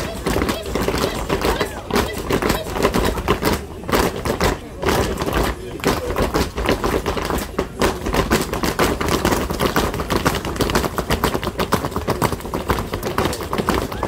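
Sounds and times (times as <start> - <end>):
shoes stamping on concrete: 0.0 - 14.0.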